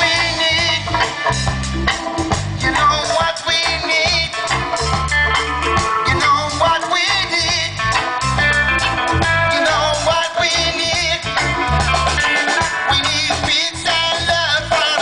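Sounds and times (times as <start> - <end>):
deep bass line: 0.0 - 14.9
live reggae band playing: 0.0 - 15.0.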